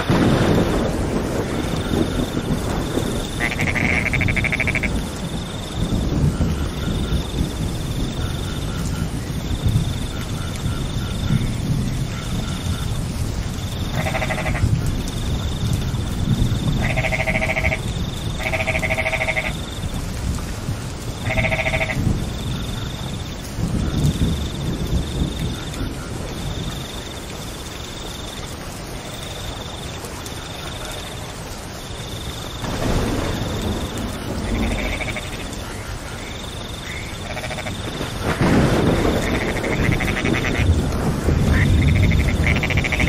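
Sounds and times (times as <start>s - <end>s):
rain falling: 0.0s - 43.0s.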